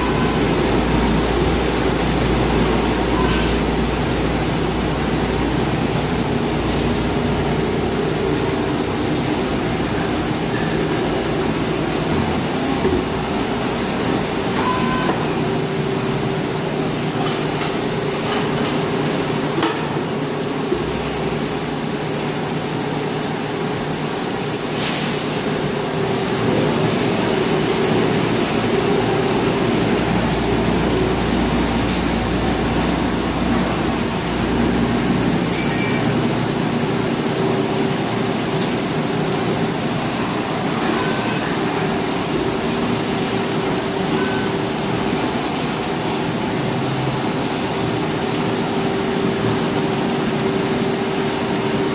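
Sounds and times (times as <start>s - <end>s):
machinery humming: 0.0s - 51.9s.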